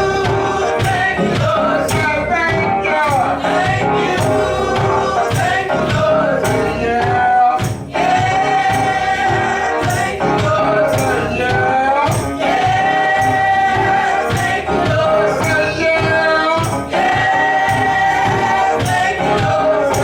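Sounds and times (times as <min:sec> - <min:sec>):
band accompaniment: 0:00.0 - 0:20.0
tambourine-like percussion: 0:00.0 - 0:20.0
voices singing gospel: 0:00.0 - 0:20.0.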